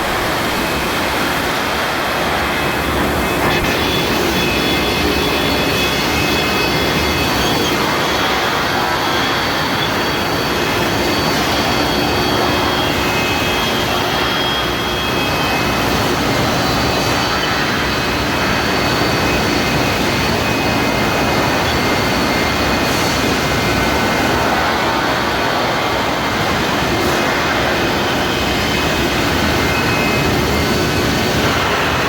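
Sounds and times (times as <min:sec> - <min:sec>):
loud machine roar: 0:00.0 - 0:32.0.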